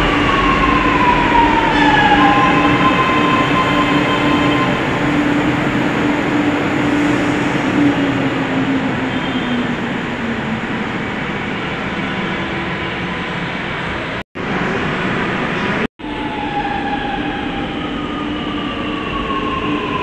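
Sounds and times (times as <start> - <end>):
train rumbling to a stop: 0.0 - 20.0.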